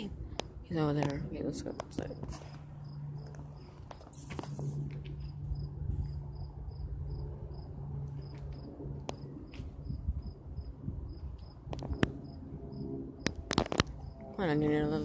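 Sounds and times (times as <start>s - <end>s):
low rumble: 0.0s - 15.0s
low steady hum: 0.0s - 15.0s.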